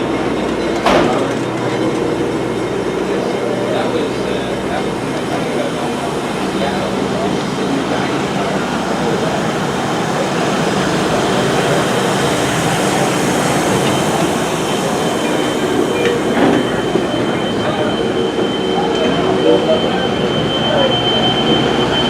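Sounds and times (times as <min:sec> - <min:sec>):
high tone from train wheels: 0:00.0 - 0:22.0
train rumbling on rails: 0:00.0 - 0:22.0.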